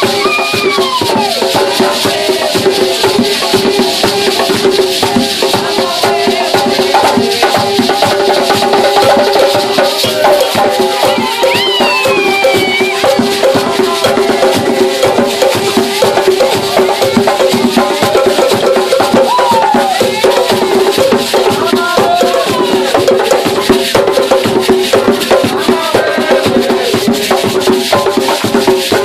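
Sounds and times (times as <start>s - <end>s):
calabash shaker rattling: 0.0s - 29.0s
hand drums beating: 0.0s - 29.0s.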